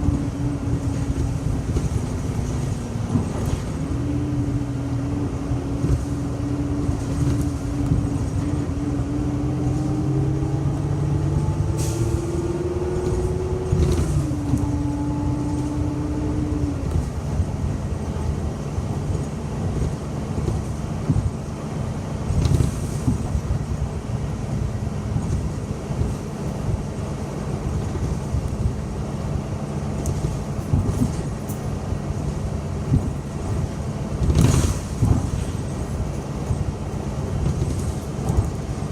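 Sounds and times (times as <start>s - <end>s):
bus engine and road rumble: 0.0s - 38.9s
drivetrain whine: 0.0s - 38.9s.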